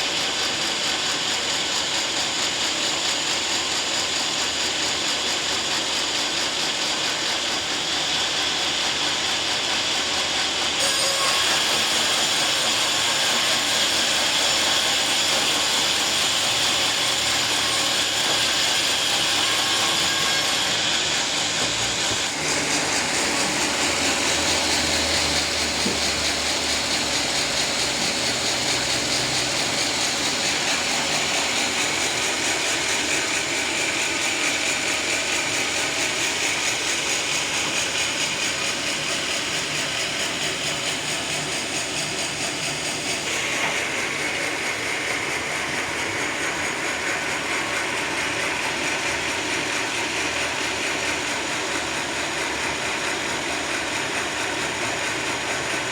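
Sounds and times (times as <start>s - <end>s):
sawmill saw cutting log: 0.0s - 55.9s.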